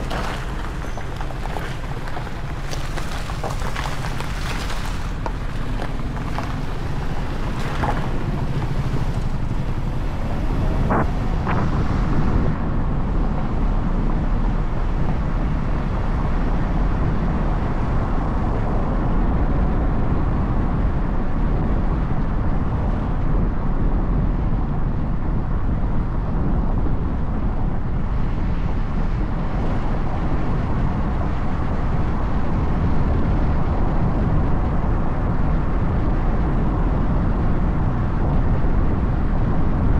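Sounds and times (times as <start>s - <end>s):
road noise: 0.0s - 39.9s
wind noise on microphone: 0.0s - 39.9s.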